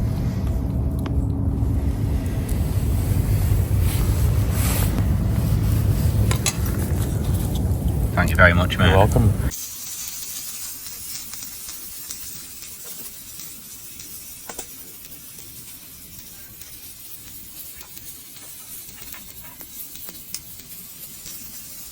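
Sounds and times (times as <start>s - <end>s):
campfire crackling and popping: 0.0s - 21.9s.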